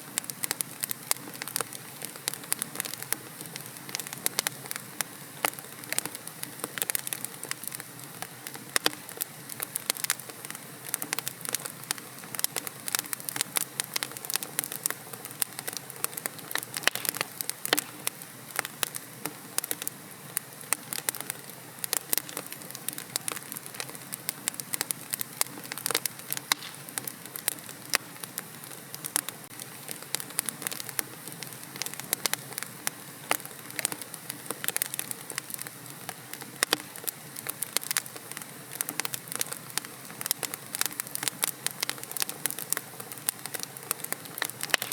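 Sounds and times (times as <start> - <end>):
fire hissing: 0.0 - 44.9
logs crackling and popping: 0.1 - 44.9.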